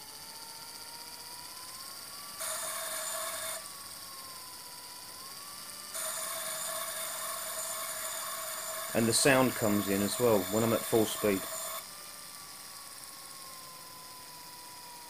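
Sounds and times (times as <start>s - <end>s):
toy train buzzing hiss effect: 0.0s - 15.0s
toy train motor whine: 0.0s - 15.0s.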